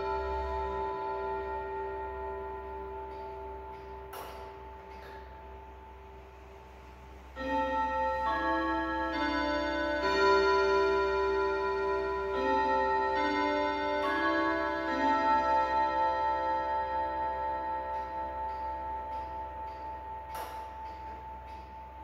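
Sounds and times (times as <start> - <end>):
clock chiming on rods: 0.0 - 6.6, 7.3 - 22.0.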